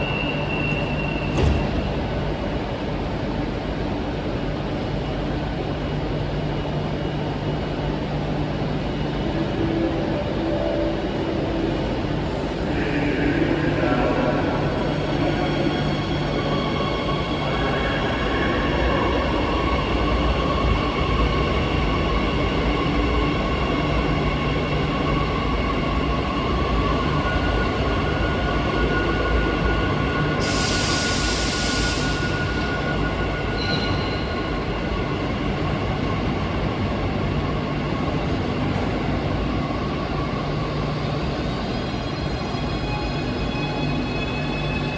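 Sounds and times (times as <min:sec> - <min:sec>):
metro train running on rails: 0:00.0 - 0:44.9.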